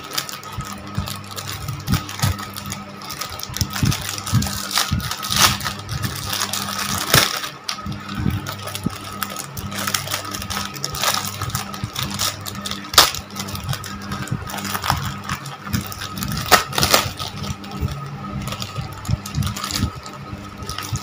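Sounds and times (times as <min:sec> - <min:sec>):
faint steady hum: 0:00.0 - 0:21.0
plastic wrapper crinkling: 0:00.0 - 0:21.0.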